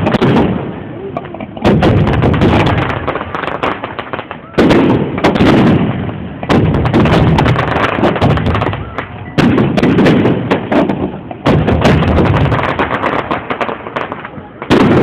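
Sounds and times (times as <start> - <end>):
booming firework bursts: 0.0 - 15.0
firework crackling and popping: 0.0 - 15.0.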